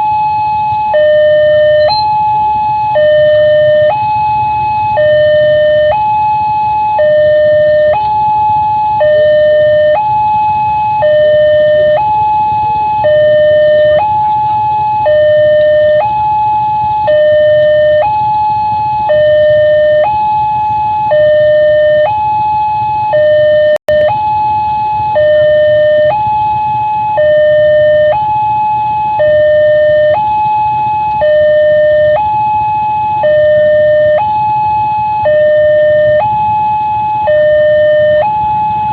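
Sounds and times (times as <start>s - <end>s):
level crossing two-tone alarm: 0.0s - 38.9s.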